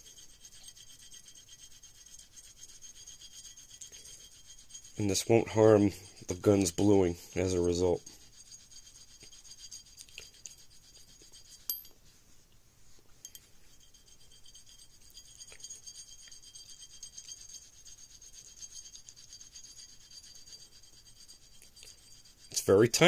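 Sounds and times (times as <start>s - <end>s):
coin rubbing on metal: 0.0s - 12.0s, 13.3s - 23.0s.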